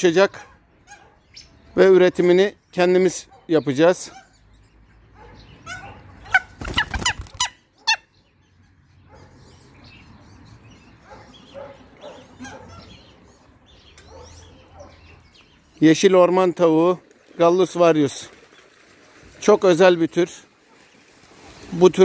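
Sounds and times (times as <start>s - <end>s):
waterfowl and farm birds calling: 0.1s - 22.0s.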